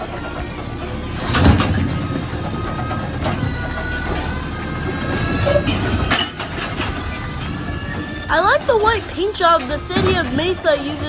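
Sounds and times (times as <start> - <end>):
hydraulic whine: 0.0 - 10.0
truck engine under load: 0.0 - 11.0.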